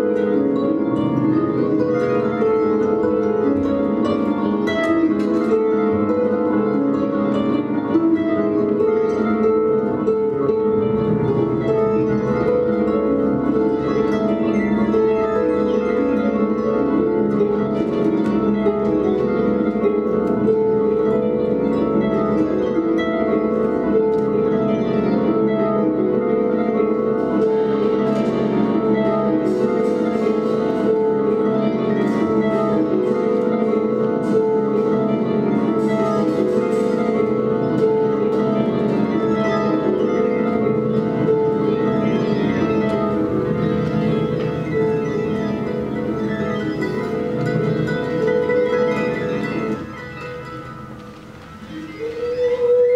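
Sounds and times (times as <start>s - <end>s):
harps playing: 0.0s - 52.9s.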